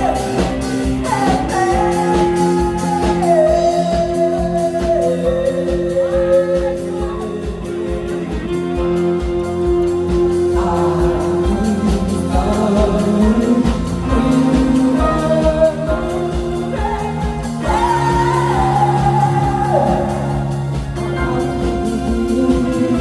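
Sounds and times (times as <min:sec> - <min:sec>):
keyboard or guitar chords: 0:00.0 - 0:23.0
person singing: 0:00.0 - 0:23.0
steady drum beat: 0:00.0 - 0:23.0.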